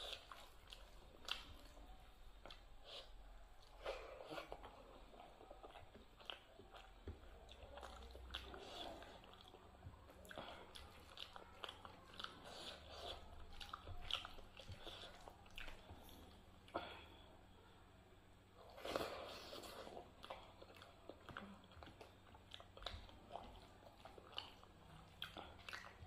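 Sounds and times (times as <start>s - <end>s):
chewing and mouth clicks: 0.0s - 16.8s, 18.6s - 26.0s.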